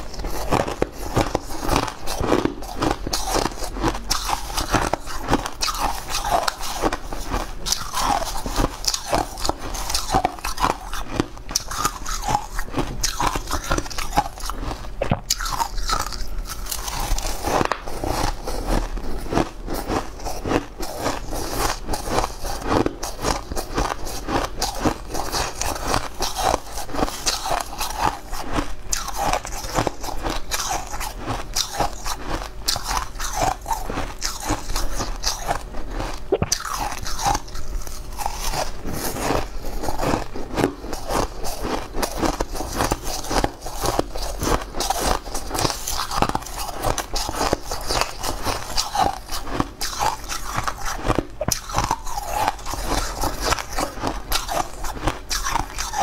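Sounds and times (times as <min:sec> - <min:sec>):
chewing crushed ice: 0:00.0 - 0:56.0.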